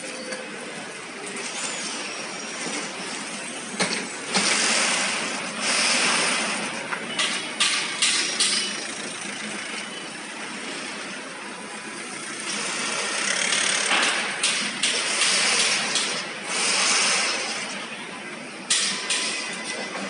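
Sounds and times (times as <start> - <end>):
steady mechanical noise: 0.0 - 20.0.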